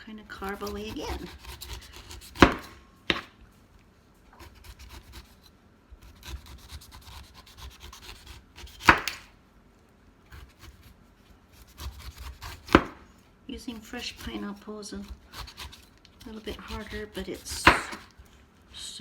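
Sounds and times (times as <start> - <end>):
knife cutting pineapple peel: 0.3 - 3.3, 4.4 - 9.3, 10.3 - 18.4.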